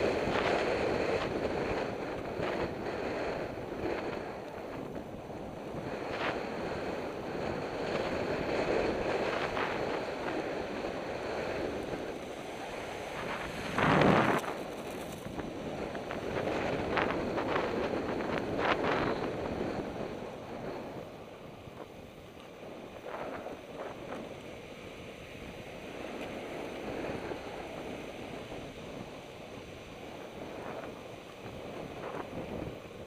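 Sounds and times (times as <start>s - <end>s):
longboard wheels rolling on asphalt: 0.0s - 33.0s
wind buffeting microphone: 0.0s - 33.0s.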